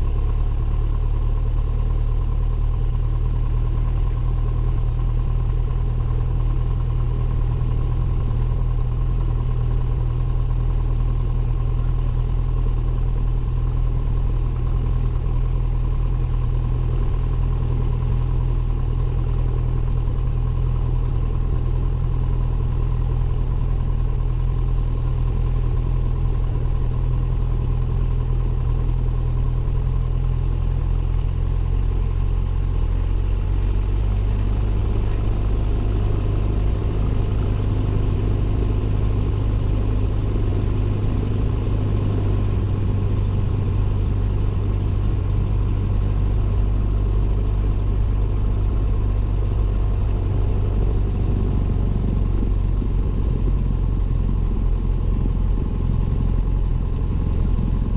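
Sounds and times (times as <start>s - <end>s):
aircraft piston engine and propeller: 0.0s - 57.9s.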